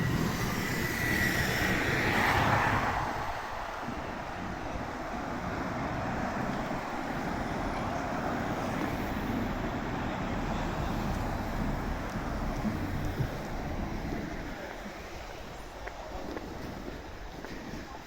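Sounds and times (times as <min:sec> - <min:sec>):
road traffic rushing: 0:00.0 - 0:17.6.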